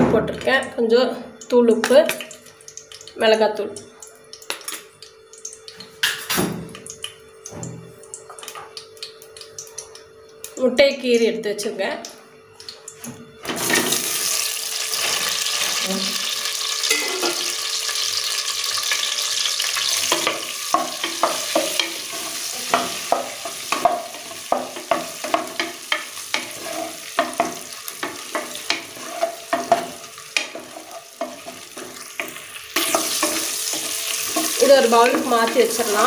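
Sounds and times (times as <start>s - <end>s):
eggs sizzling in hot oil: 0.5s - 36.0s.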